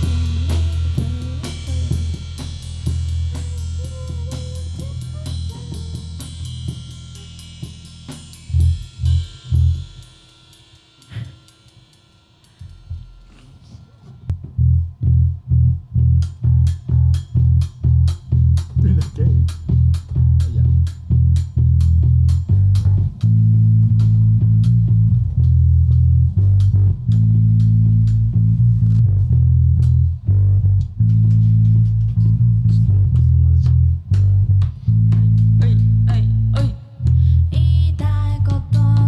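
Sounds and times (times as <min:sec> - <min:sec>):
electric bass: 0:00.0 - 0:10.2, 0:14.3 - 0:39.0
drums and cymbals: 0:00.0 - 0:15.3, 0:15.9 - 0:37.2.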